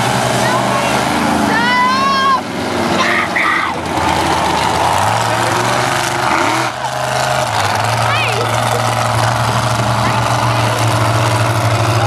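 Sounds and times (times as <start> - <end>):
monster truck engines running: 0.0 - 12.0.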